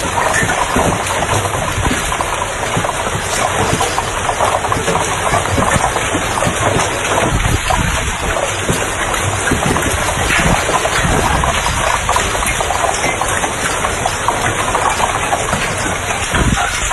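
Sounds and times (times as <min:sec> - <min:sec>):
hailstones clattering: 0:00.0 - 0:16.9.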